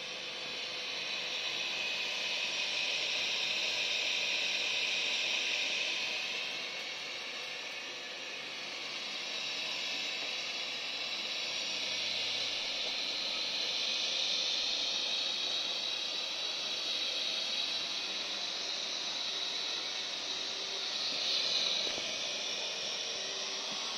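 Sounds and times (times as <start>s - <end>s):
robot vacuum cleaner hissing: 0.0s - 23.9s.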